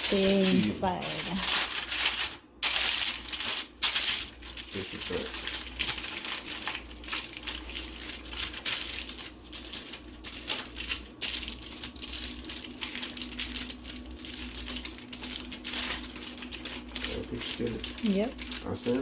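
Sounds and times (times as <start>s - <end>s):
aluminium foil crinkling: 0.0s - 19.0s
faint low hum: 0.0s - 19.0s.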